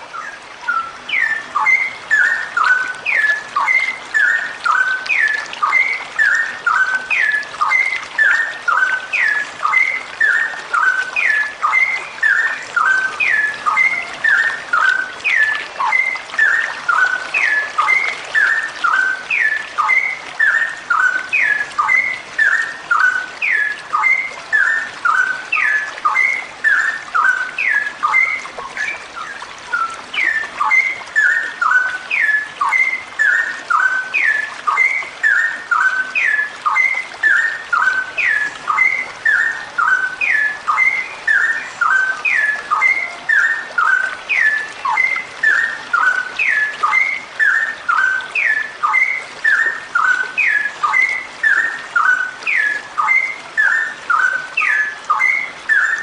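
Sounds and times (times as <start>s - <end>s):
bulbul calling: 0.0s - 56.0s.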